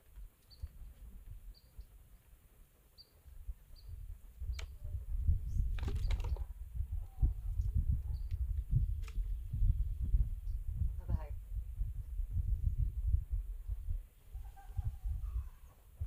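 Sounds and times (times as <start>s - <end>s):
wind rumbling on microphone: 0.0s - 2.6s, 3.2s - 16.0s.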